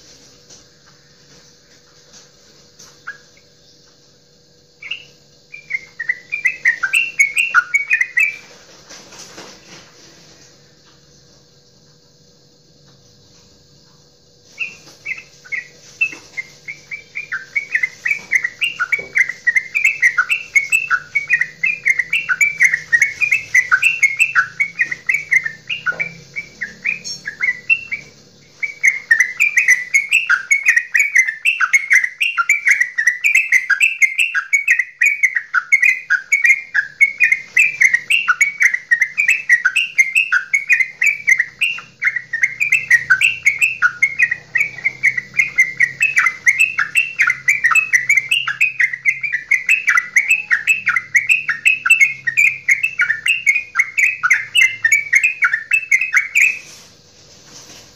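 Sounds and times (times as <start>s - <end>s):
bird chattering song: 1.8s - 9.8s, 14.4s - 57.0s.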